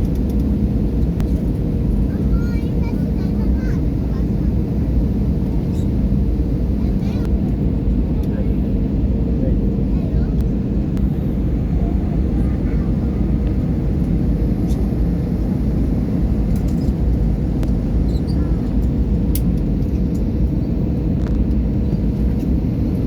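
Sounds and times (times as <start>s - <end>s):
airliner engines and airflow rumble: 0.0s - 23.0s
faint constant hum: 0.0s - 23.0s.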